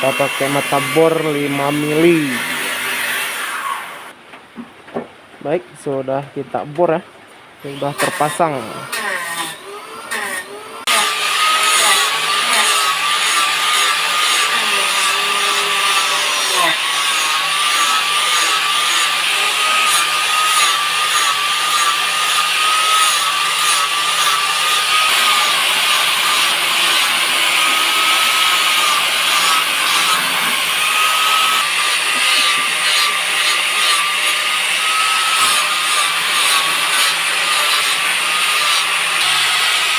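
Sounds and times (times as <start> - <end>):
power tool rasping wood: 0.0 - 4.1, 7.7 - 39.9.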